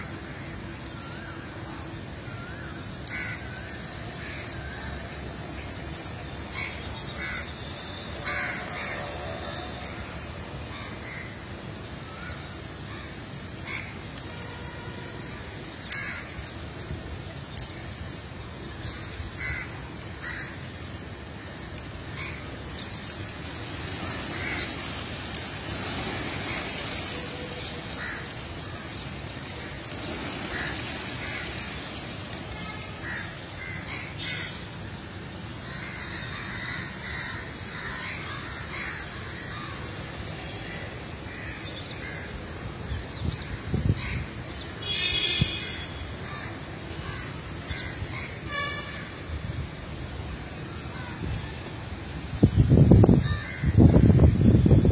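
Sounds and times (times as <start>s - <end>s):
outdoor background hiss: 0.0s - 54.9s.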